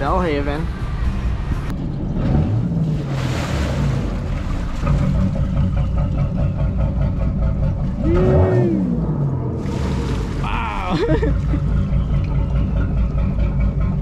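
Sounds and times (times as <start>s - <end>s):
boat diesel engine running: 0.0s - 14.0s.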